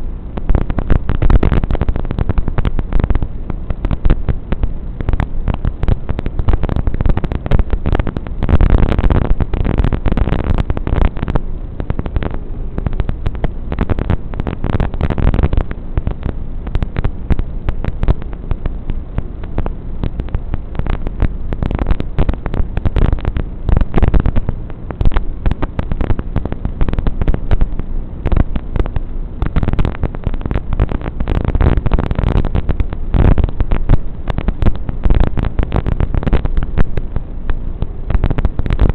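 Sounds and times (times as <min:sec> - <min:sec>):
crackling static: 0:00.0 - 0:38.9
low rumble: 0:00.0 - 0:38.9.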